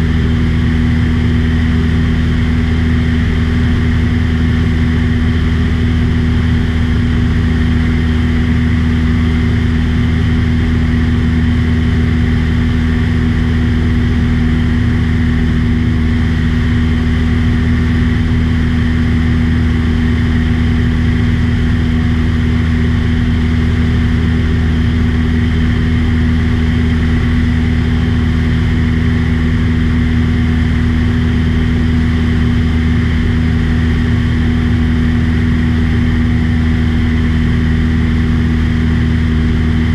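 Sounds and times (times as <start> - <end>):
airplane engine and propeller hum: 0.0 - 39.9.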